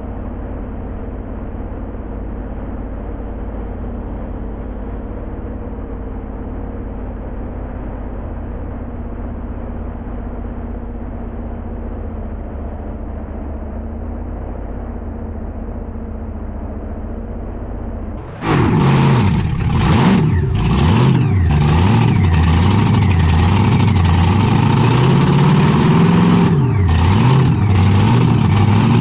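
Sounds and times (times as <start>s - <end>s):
tractor engine rumbling at low revs: 0.0s - 29.0s.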